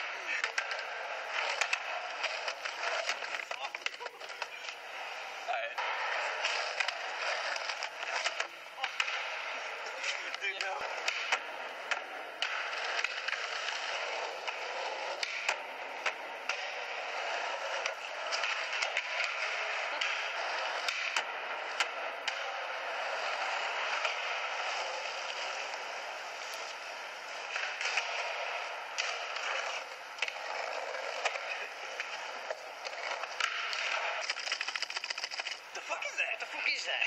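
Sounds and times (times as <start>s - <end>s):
skateboard clicks and knocks: 0.0s - 37.0s
skateboard wheels rolling on concrete: 0.0s - 37.0s.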